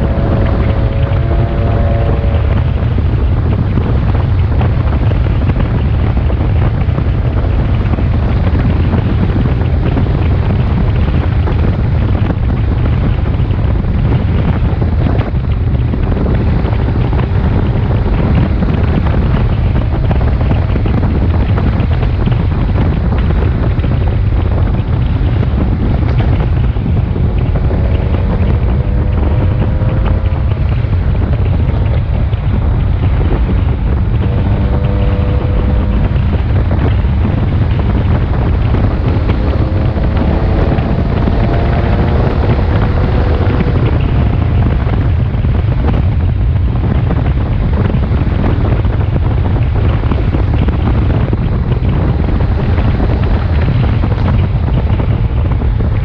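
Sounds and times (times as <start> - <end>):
faint motorcycle engine: 0.0 - 56.0
wind buffeting on microphone: 0.0 - 56.0.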